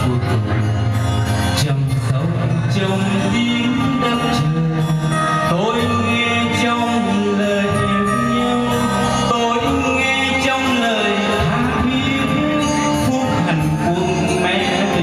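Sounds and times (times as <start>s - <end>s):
instrumental accompaniment: 0.0s - 15.0s
man singing into microphone: 0.0s - 15.0s.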